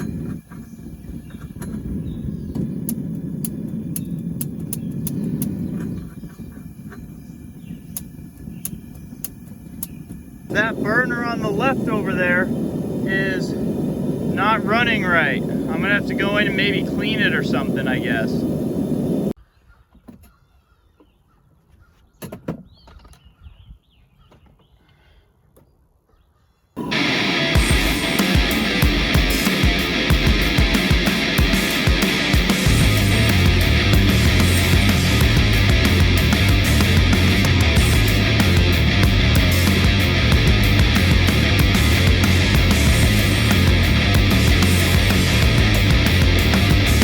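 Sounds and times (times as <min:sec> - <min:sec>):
gas burners rushing: 0:00.0 - 0:19.4, 0:26.8 - 0:47.0.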